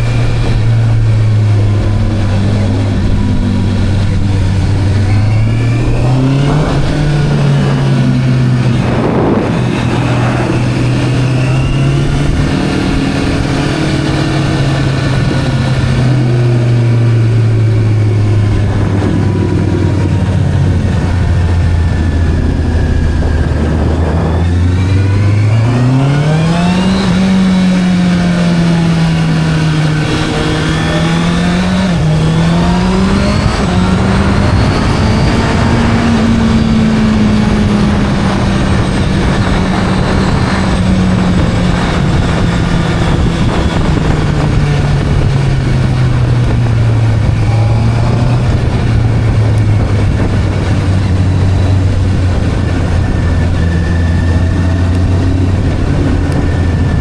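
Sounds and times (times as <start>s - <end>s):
motorcycle engine revving: 0.0s - 57.0s
rushing wind noise: 0.0s - 57.0s.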